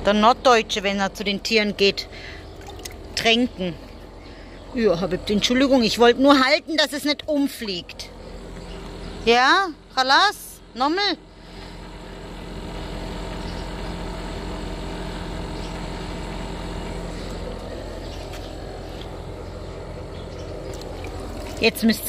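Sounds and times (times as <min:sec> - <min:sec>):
motor hum with low drone: 0:00.0 - 0:22.0.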